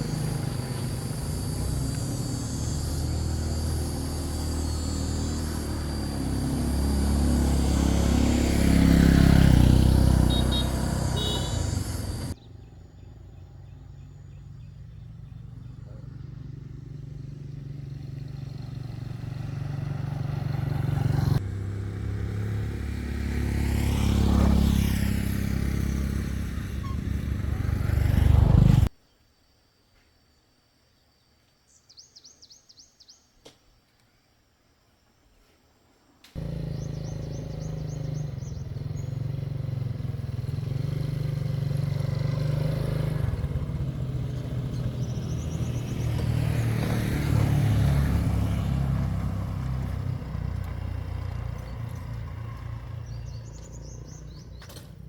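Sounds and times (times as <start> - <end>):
vehicle engine passing by: 0.0 - 28.9, 36.4 - 55.0.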